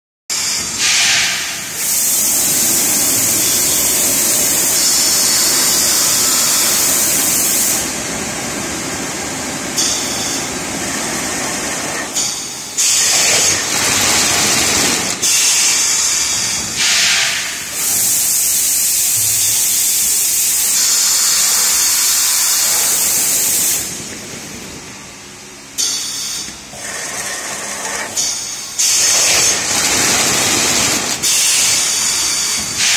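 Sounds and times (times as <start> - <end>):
pneumatic air hiss: 0.3 - 8.0, 9.8 - 10.5, 11.9 - 24.0, 25.7 - 32.9.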